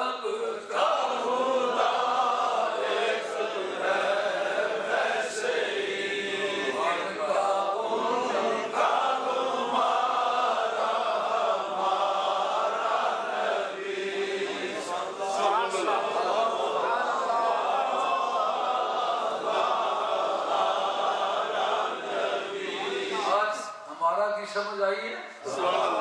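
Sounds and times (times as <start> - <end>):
men chanting religious recitation: 0.0 - 26.0.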